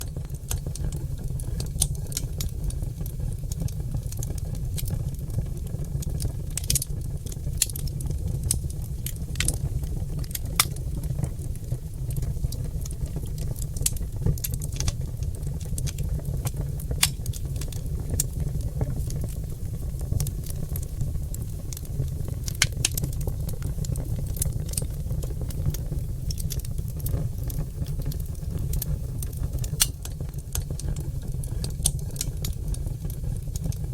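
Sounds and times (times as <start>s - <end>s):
logs crackling in a fireplace: 0.0s - 33.9s
low fire rumble: 0.0s - 33.9s.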